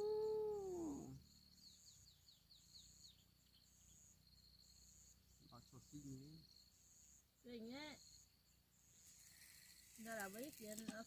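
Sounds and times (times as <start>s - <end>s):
faint insects chirring: 0.0s - 11.0s.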